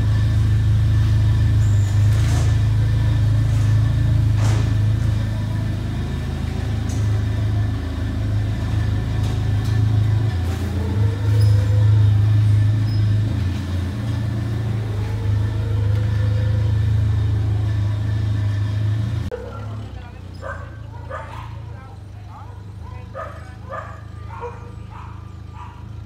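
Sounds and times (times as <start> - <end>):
forklift engine running: 0.0 - 26.0.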